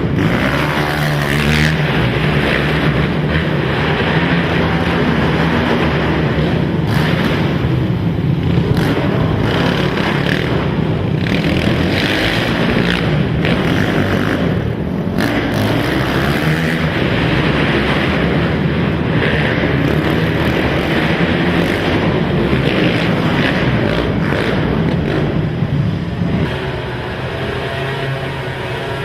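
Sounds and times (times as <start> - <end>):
racing quad engines revving: 0.0 - 29.0.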